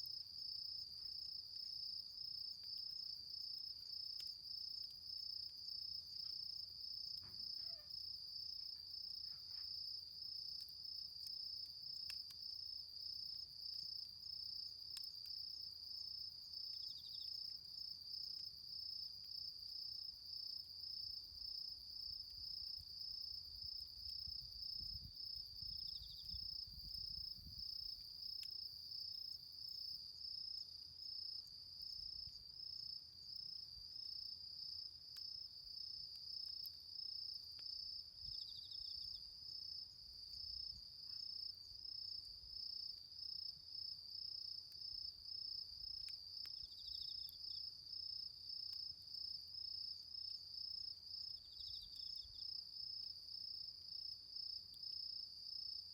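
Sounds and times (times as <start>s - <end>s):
faint ticks of embers: 0.0s - 55.9s
crickets chirring: 0.1s - 55.8s.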